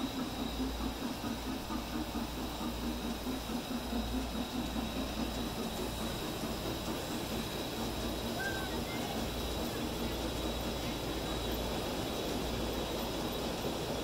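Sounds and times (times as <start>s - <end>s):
model train rumbling and clattering: 0.0s - 14.0s.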